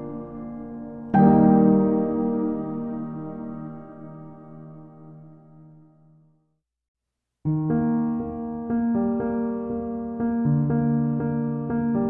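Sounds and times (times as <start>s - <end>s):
electric piano slow melody: 0.0s - 5.9s, 7.5s - 12.0s.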